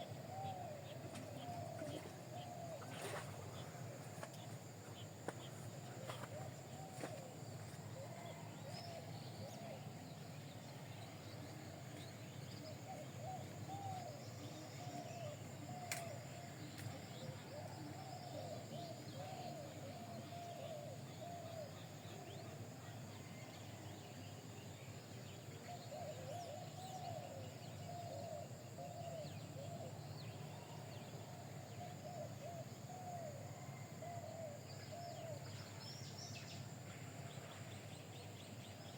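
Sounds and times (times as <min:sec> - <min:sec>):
constant low hum: 0:00.0 - 0:38.9.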